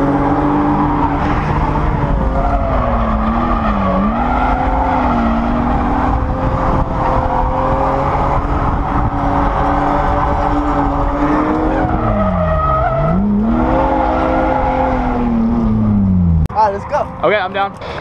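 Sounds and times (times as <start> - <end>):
car engine at high revs: 0.0 - 16.5.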